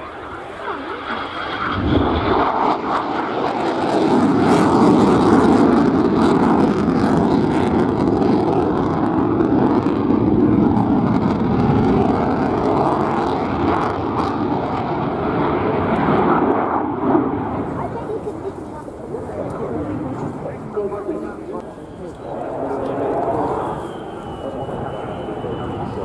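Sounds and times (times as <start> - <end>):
fighter jet flying overhead: 0.0 - 26.0.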